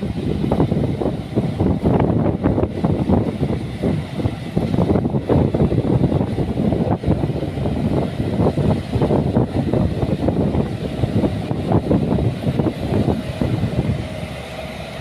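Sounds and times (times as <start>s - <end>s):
heavy machinery engine running: 0.0s - 15.0s
machinery rattling and clanking: 0.0s - 15.0s.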